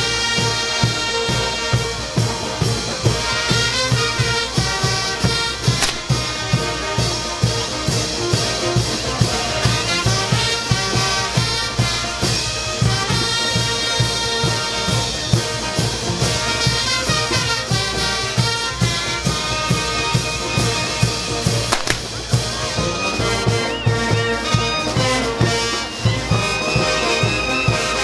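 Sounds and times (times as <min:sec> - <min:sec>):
brass band music: 0:00.0 - 0:28.0
drums keeping a steady beat: 0:00.0 - 0:28.0.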